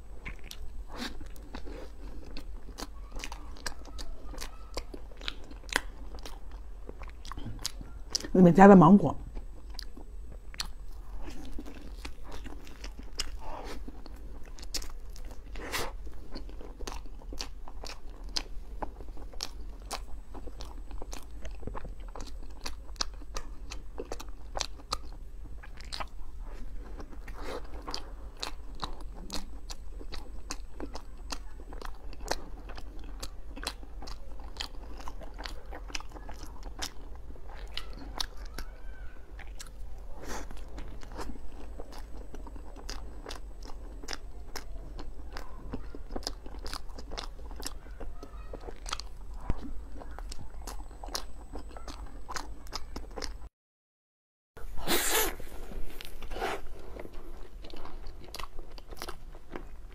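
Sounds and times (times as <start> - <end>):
wet sticky chewing: 0.0 - 8.4, 9.3 - 53.5, 54.7 - 59.9.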